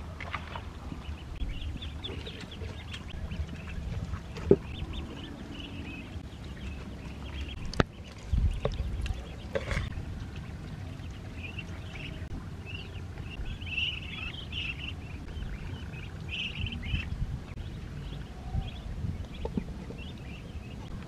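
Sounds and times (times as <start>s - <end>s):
birds chirping: 0.0s - 21.0s
steady low rumble: 0.0s - 21.0s.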